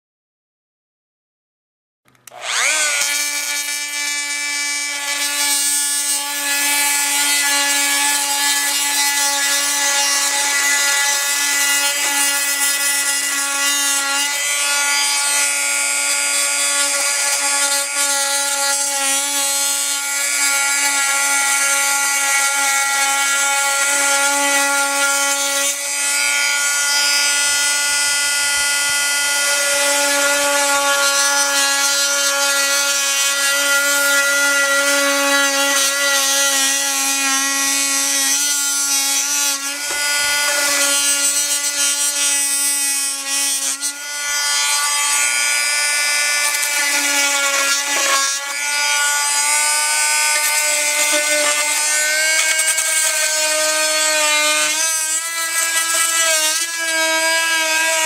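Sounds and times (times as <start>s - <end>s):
oscillating multi-tool buzzing: 2.2s - 58.0s.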